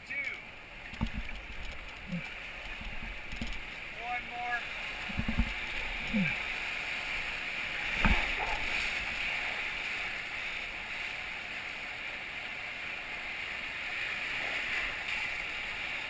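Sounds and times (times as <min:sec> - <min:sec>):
whitewater rapids rushing: 0:00.4 - 0:16.0.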